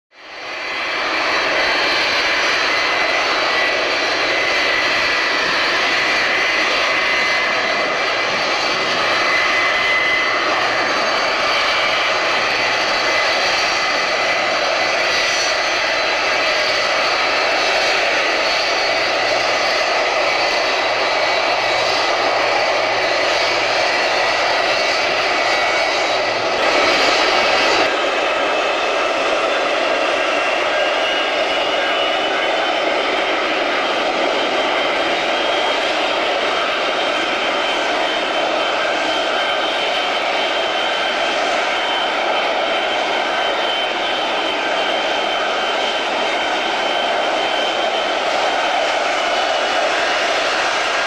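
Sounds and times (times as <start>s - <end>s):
jet engine whine: 0.1s - 51.0s.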